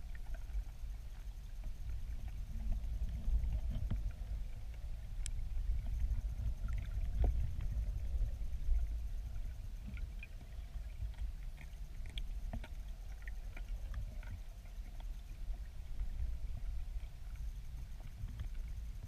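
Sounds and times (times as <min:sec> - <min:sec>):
river water underwater rumble: 0:00.0 - 0:19.0
small underwater clicks: 0:00.0 - 0:19.0.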